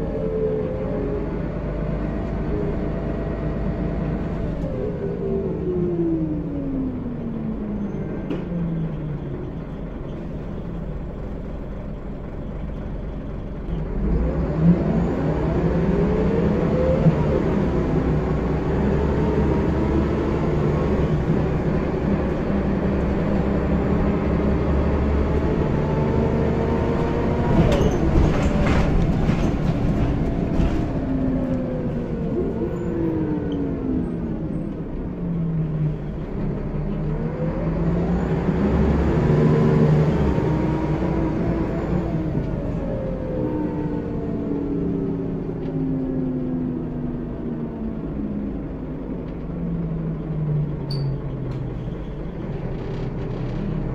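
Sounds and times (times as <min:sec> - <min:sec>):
bus diesel engine: 0:00.0 - 0:53.9.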